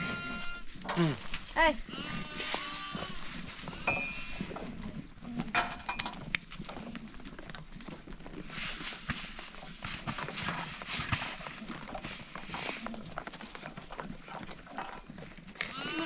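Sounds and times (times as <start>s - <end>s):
goat hooves scuffling: 0.0s - 16.0s.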